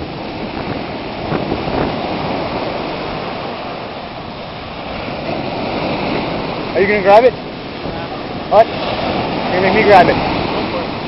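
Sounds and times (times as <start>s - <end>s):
ocean surf washing ashore: 0.0s - 11.0s.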